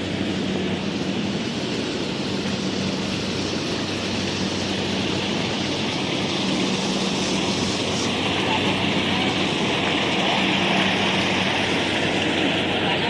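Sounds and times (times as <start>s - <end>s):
harvester engine hum: 0.0s - 13.0s
mechanical rush: 0.0s - 13.0s.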